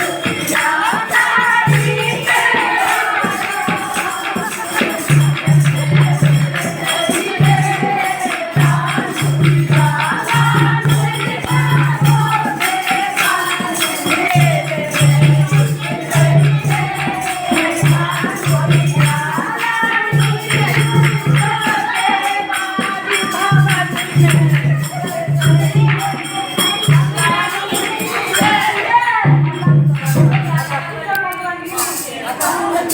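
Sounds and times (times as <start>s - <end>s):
person singing devotional song: 0.0s - 32.9s
repeating drum beat: 0.0s - 32.9s.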